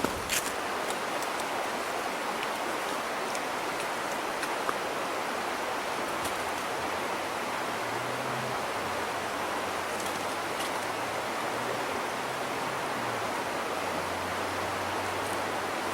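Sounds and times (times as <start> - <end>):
creek water flowing: 0.0 - 15.9.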